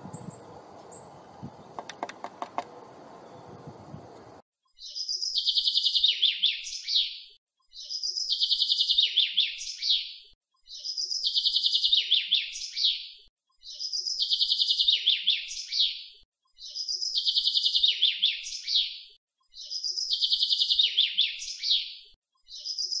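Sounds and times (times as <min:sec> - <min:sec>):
songbird singing trills: 0:00.0 - 0:02.0, 0:02.8 - 0:16.0, 0:16.6 - 0:23.0.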